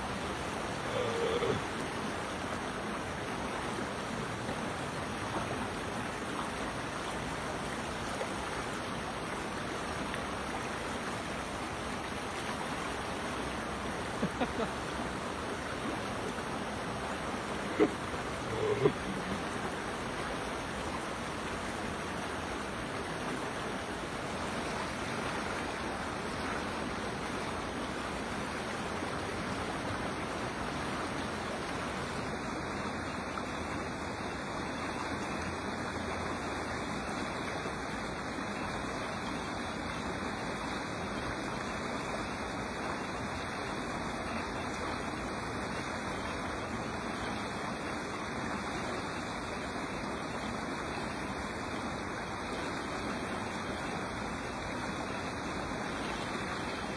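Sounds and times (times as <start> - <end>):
creek water flowing: 0.0 - 56.9.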